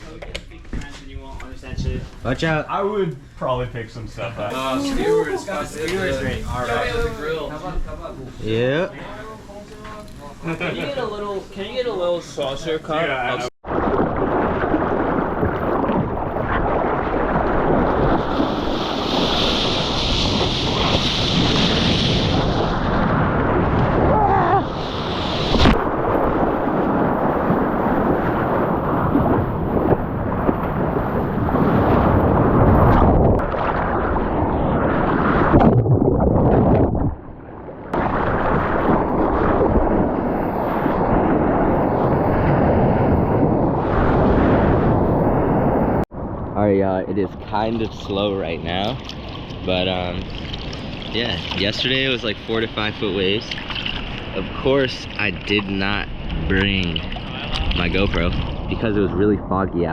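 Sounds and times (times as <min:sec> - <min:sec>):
wind buffeting microphone: 0:01.1 - 0:02.6, 0:04.5 - 0:09.4, 0:13.6 - 0:59.9.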